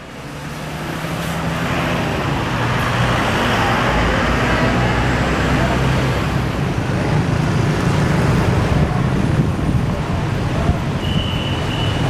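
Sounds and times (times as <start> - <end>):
bus engines rumbling: 0.0 - 12.0
traffic noise: 0.0 - 12.0.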